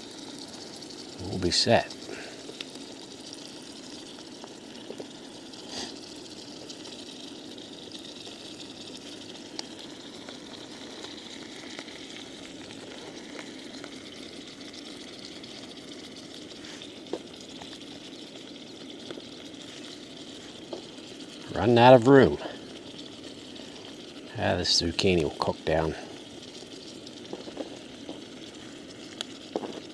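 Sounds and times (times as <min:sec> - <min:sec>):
food sizzling in a pan: 0:00.0 - 0:29.9.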